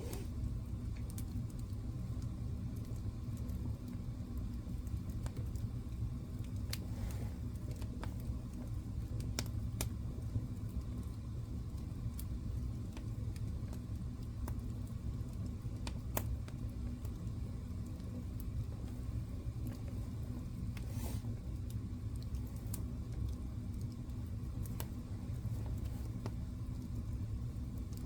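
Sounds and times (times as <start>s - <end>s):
flames rumbling: 0.0s - 28.0s
wood fire crackling and popping: 0.0s - 28.0s.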